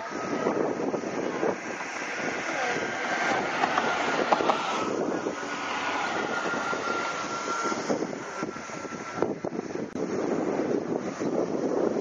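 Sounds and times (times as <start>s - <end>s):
faint steady whine: 0.0s - 12.0s
road traffic hum: 0.0s - 12.0s.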